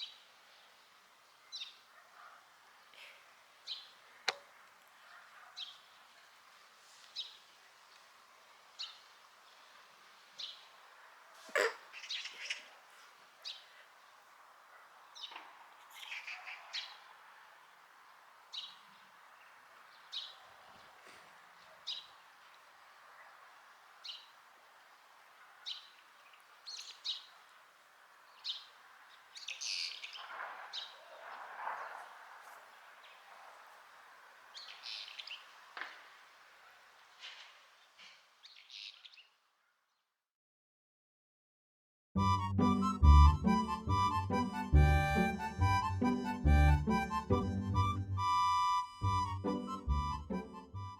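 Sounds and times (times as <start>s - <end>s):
bird chirping: 0.0s - 39.4s, 42.2s - 50.9s
outdoor background hiss: 0.0s - 40.0s, 42.5s - 50.8s.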